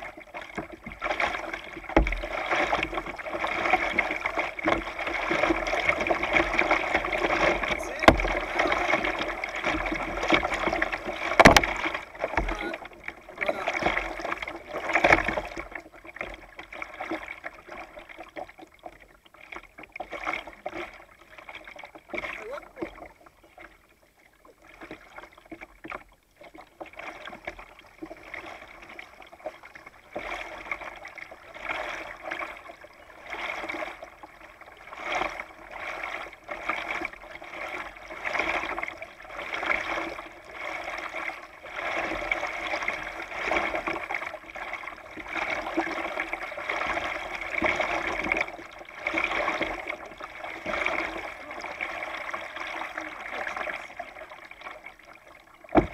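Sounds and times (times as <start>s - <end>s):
paddle splashing in water: 0.0s - 55.9s
water lapping against hull: 0.0s - 55.9s.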